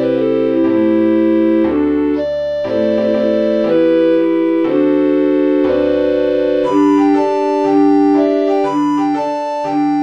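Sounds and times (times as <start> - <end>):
digital recorder ensemble music: 0.0 - 10.0.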